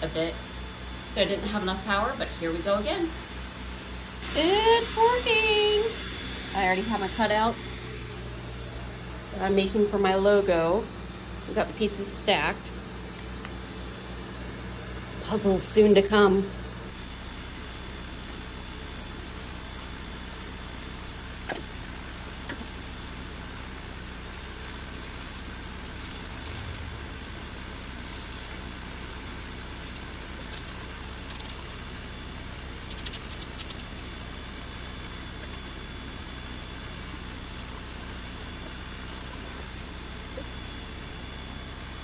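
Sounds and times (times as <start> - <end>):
laser engraver fan noise: 0.0 - 42.0.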